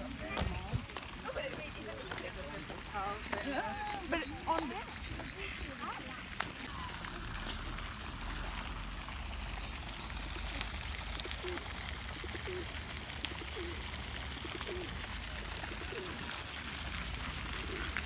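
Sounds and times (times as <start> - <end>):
pond fountain splashing: 0.0 - 18.0.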